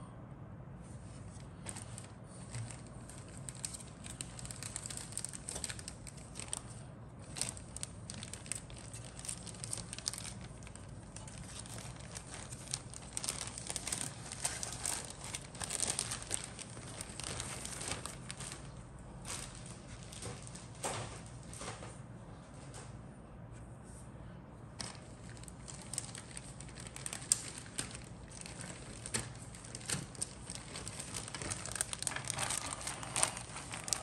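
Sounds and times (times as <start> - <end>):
plastic rustling: 0.8 - 23.0, 24.7 - 34.0.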